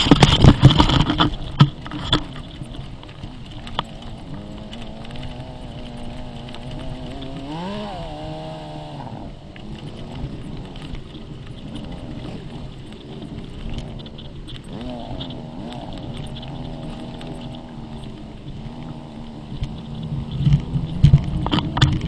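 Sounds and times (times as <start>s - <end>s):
clattering rattles: 0.0s - 8.9s, 9.6s - 22.0s
dune buggy engine revving: 0.0s - 22.0s.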